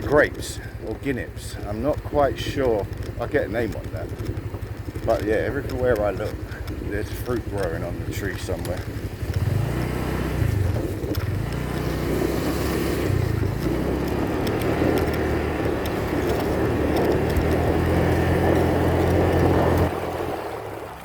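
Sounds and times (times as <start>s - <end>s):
vehicle engine running: 0.0s - 21.0s
wind on microphone: 2.9s - 21.0s.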